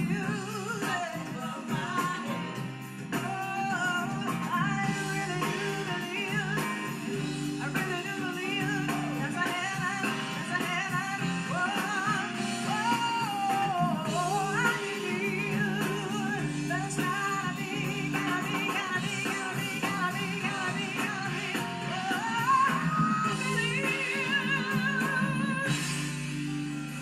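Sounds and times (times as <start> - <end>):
women singing with vibrato: 0.0 - 26.6
electric bass: 0.0 - 27.0
electric guitar: 0.0 - 27.0.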